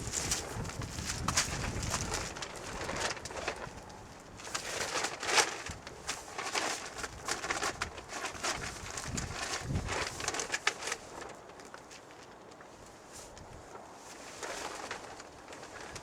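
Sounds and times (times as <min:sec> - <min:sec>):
plastic cover rustling and crinkling: 0:00.0 - 0:16.0.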